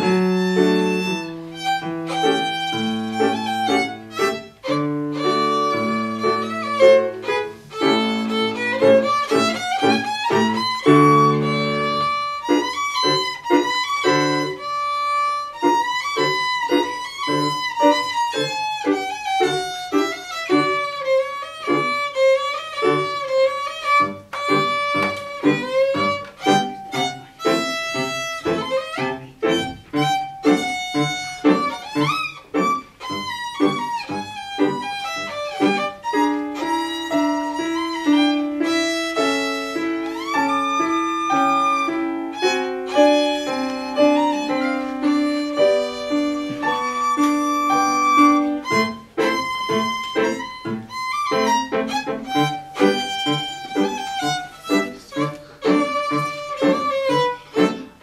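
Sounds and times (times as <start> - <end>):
piano accompaniment: 0.0 - 58.0
solo violin melody: 0.0 - 58.0.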